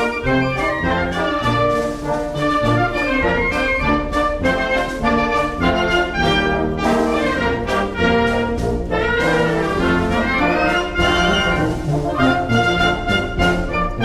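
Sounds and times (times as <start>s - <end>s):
military wind band playing a march: 0.0s - 14.0s
trumpets and trombones: 0.0s - 14.0s.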